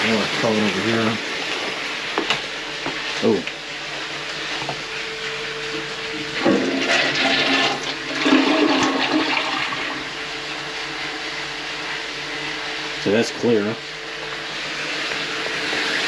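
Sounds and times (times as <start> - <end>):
steady hum: 0.0 - 16.0
toilet flushing: 0.0 - 16.0.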